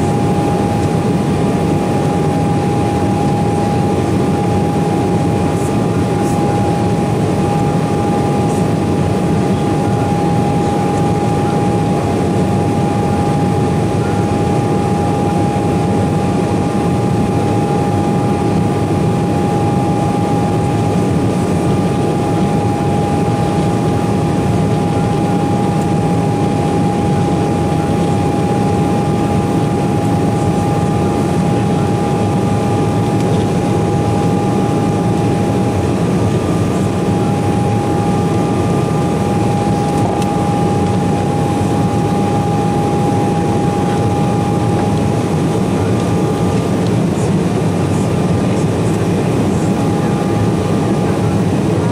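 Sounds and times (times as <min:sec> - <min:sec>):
high engine fan whine: 0:00.0 - 0:51.9
jet engine and airflow rush: 0:00.0 - 0:51.9.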